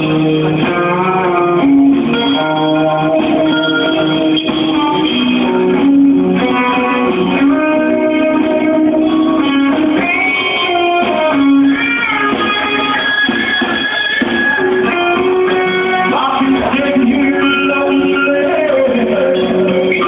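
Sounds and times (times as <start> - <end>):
live guitar band music: 0.0 - 20.0.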